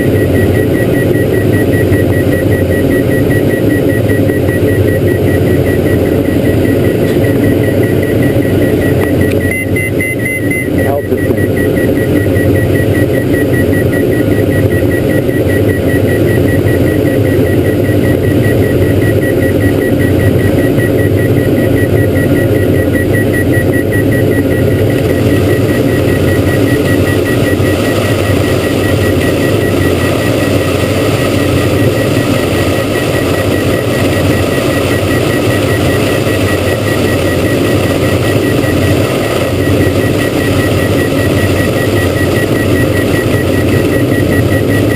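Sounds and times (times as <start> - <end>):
aircraft engines and propellers droning: 0.0 - 44.9.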